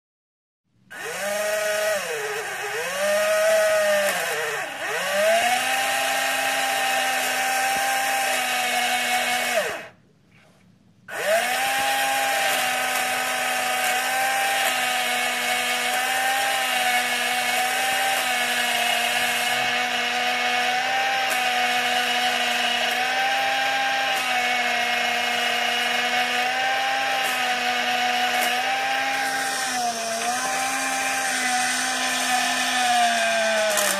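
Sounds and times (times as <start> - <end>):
small electric motor whining: 0.9 - 10.0, 11.1 - 33.9.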